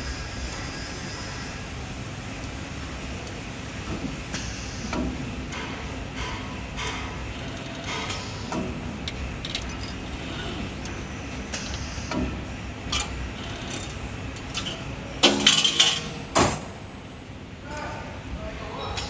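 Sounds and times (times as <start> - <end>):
wire bending machine running: 0.0 - 17.4.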